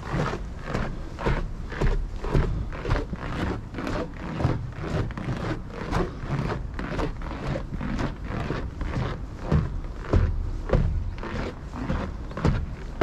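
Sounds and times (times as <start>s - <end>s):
footsteps on snow: 0.0s - 13.0s.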